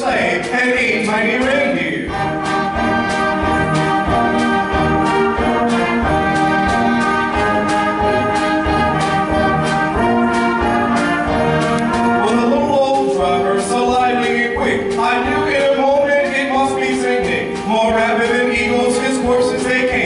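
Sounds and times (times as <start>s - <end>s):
concert band playing chords: 0.0s - 20.0s
steady percussion beat: 0.0s - 20.0s.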